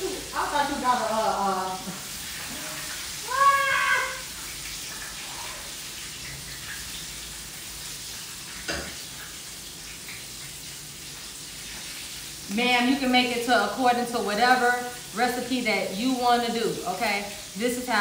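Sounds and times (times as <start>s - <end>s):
chicken wings sizzling in oil: 0.0s - 18.0s.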